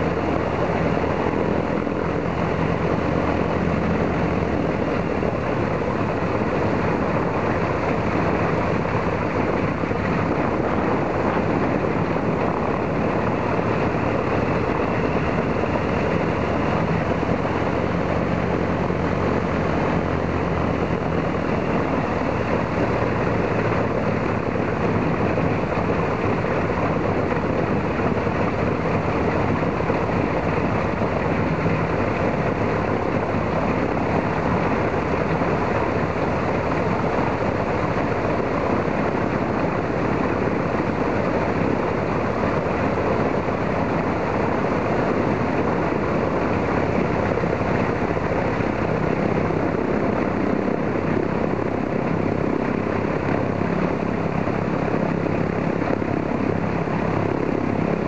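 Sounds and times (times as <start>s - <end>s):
radial aircraft engine idling: 0.0s - 58.0s.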